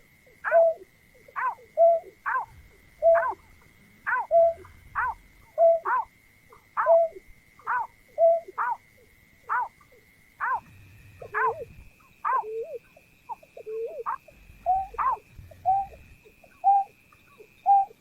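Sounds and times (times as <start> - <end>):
bird rapid hooting calls: 0.0 - 18.0
thin high whine: 0.0 - 18.0.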